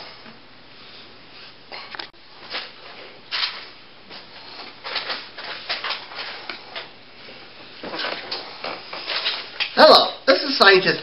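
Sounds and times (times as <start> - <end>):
rustling and handling noises: 0.1 - 10.0.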